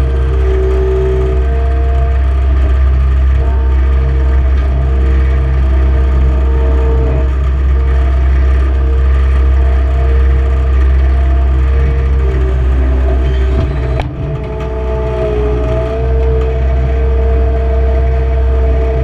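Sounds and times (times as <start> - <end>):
engine whine: 0.0 - 19.0
loader engine running: 0.0 - 19.0.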